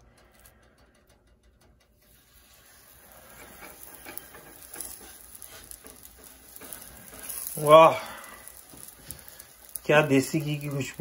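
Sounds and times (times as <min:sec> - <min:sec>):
dough sizzling on a hot griddle: 0:00.0 - 0:11.0.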